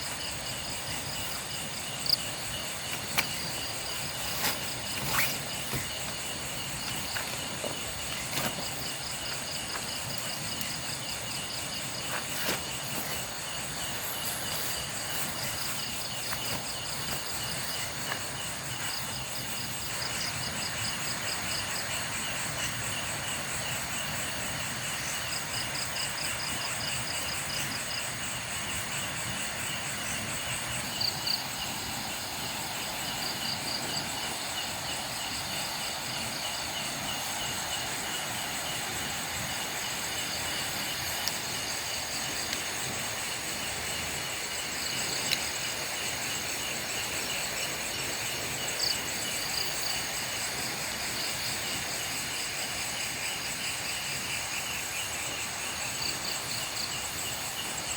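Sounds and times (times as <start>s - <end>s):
crickets trilling: 0.0s - 57.9s
pulsing insect trill: 0.0s - 57.9s.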